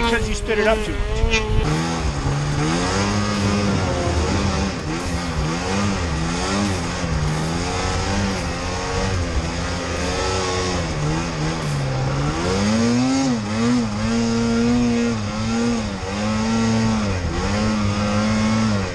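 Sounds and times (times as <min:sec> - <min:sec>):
snowmobile engine revving: 0:00.0 - 0:18.9.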